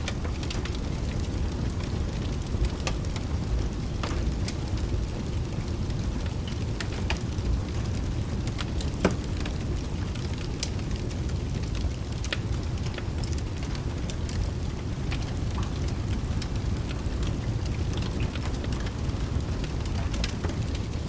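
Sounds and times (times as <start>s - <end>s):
fire crackling and popping: 0.0s - 21.0s
rain: 0.0s - 21.0s.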